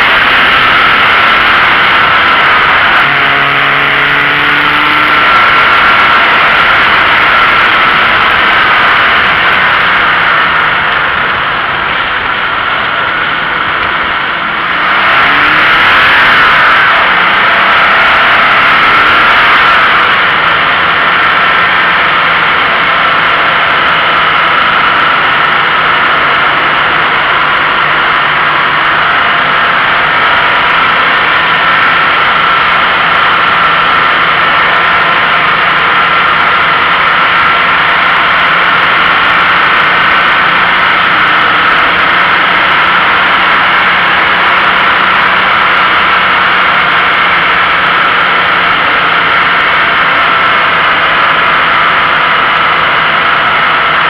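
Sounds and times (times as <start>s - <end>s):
faint steady engine note: 0.0s - 54.0s
road and wind noise: 0.0s - 54.0s.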